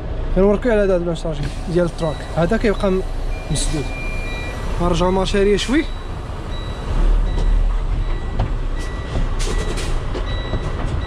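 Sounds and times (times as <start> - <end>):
diesel engine rumbling: 0.0 - 11.0
reverse warning beeping: 1.5 - 11.0.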